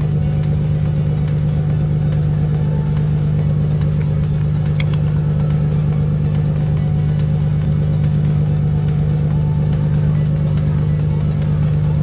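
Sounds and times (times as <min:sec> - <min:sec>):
engine droning hum: 0:00.0 - 0:12.0.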